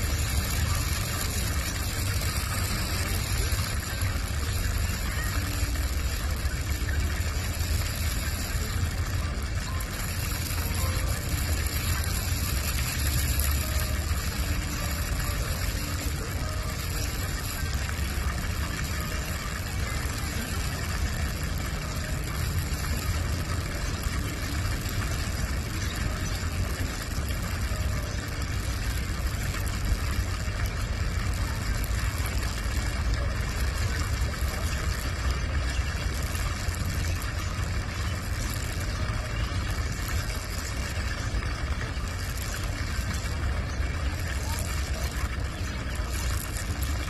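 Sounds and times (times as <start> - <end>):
falling water rushing: 0.0 - 47.0.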